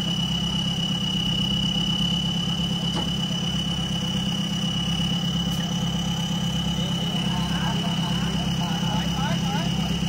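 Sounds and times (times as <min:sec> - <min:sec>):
off-road vehicle engine idling: 0:00.0 - 0:10.0.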